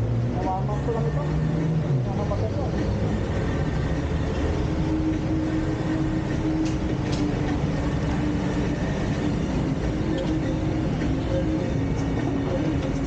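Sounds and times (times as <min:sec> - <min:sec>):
fuel pump humming: 0:00.6 - 0:13.0.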